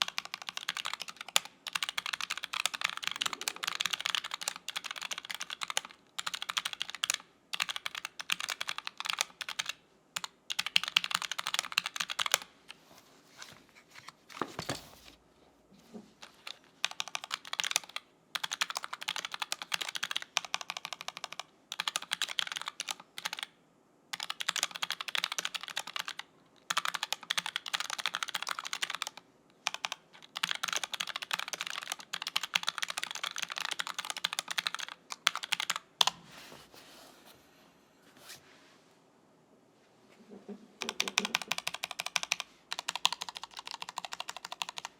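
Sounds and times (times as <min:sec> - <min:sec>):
mechanical keyboard typing: 0:00.0 - 0:12.5, 0:16.2 - 0:36.2, 0:40.8 - 0:44.9.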